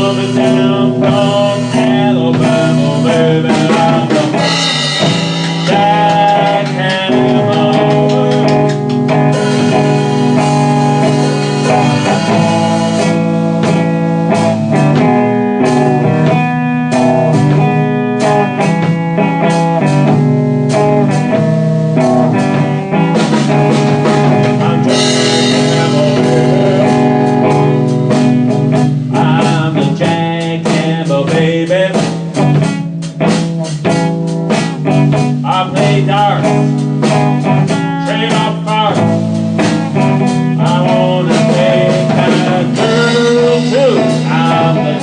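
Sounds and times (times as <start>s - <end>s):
slow blues guitar: 0.0s - 45.0s.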